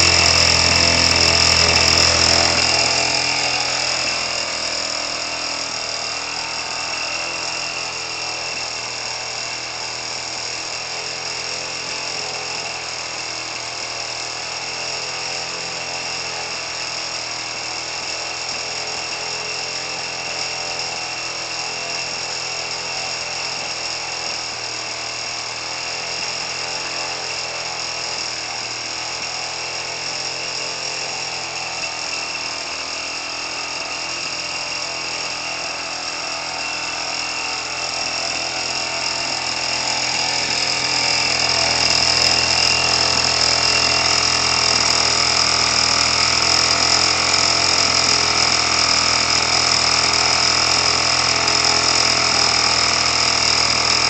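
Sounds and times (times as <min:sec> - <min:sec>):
small two-stroke engine running: 0:00.0 - 0:54.0.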